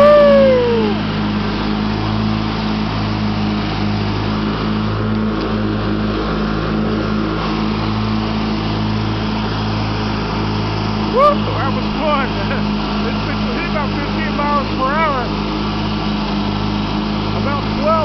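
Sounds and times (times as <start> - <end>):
riding mower engine droning: 0.0 - 18.0.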